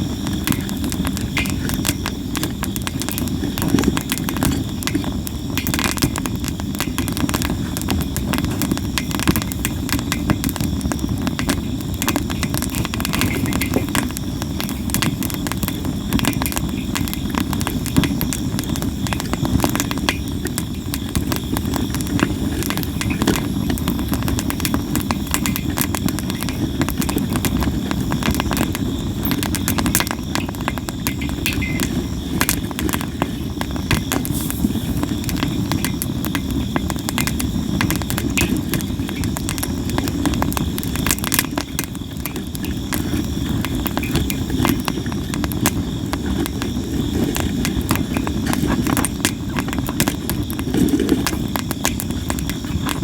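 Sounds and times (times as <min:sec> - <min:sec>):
campfire crackling and popping: 0:00.0 - 0:53.0
low rumble of fire: 0:00.0 - 0:53.0.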